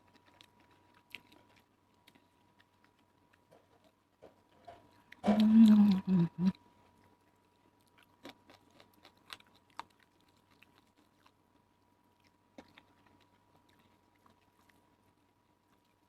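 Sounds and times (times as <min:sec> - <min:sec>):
soft chewing clicks: 0:00.0 - 0:16.0.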